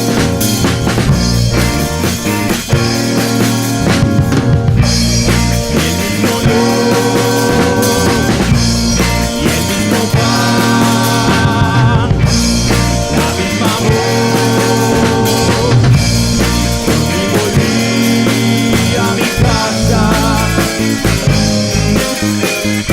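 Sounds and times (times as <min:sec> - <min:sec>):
bass guitar: 0:00.0 - 0:22.9
drum kit: 0:00.0 - 0:22.9.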